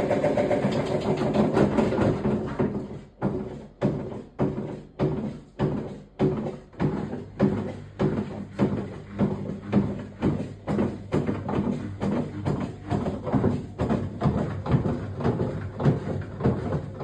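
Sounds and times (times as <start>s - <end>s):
washing machine drum rumbling: 0.0s - 17.0s
washing machine knocking: 0.0s - 17.0s.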